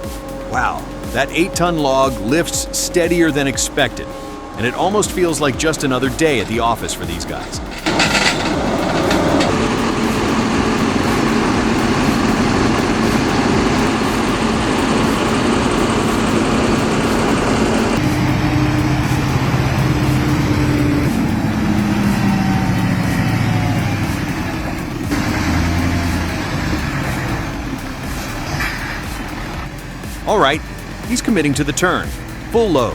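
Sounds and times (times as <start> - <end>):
heavy vehicle engines running: 0.0 - 32.9.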